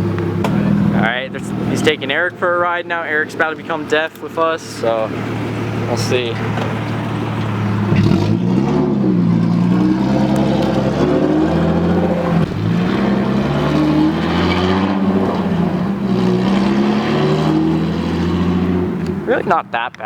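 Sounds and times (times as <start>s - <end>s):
loud car engine changing gear: 0.0s - 20.0s.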